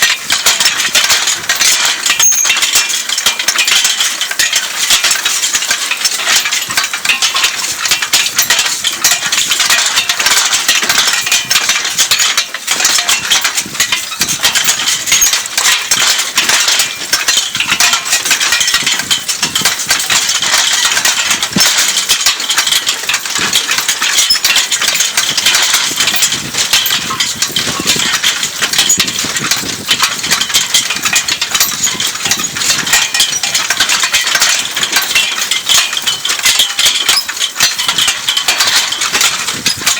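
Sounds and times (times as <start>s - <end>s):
cultivator metallic rattling: 0.0s - 39.9s
harness chains clinking: 0.0s - 39.9s.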